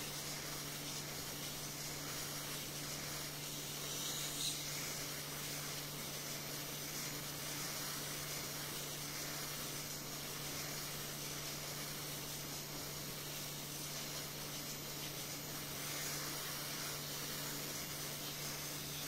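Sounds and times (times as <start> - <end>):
hot air blower hissing: 0.0 - 19.0.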